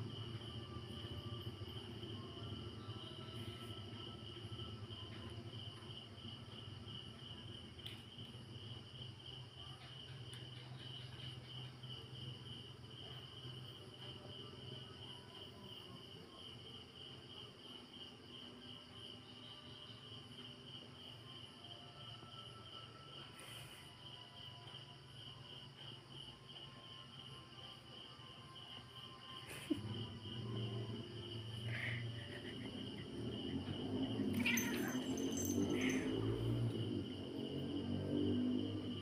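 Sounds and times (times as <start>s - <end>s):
cricket chirping: 0.0s - 39.0s
low background hum: 0.0s - 39.0s.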